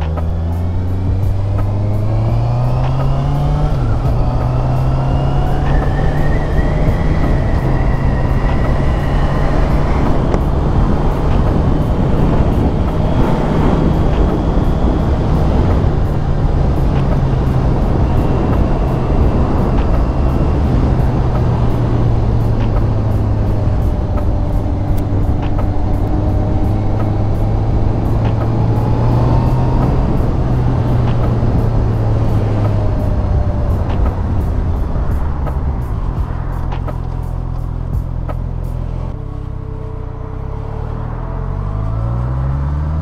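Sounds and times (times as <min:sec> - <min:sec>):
motorcycle engine running: 0:00.0 - 0:39.2
wind and road noise: 0:00.0 - 0:43.0.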